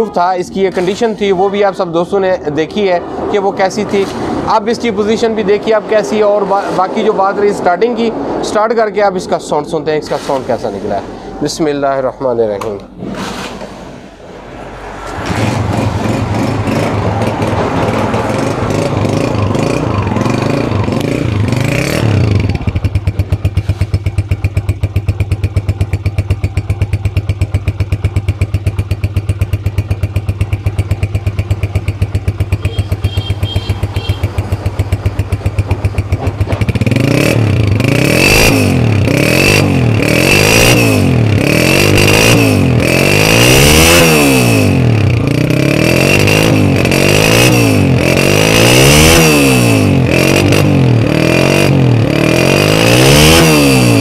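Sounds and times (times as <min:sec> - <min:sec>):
motorcycle engine idling and revving: 0:00.0 - 0:11.8, 0:14.7 - 0:54.0.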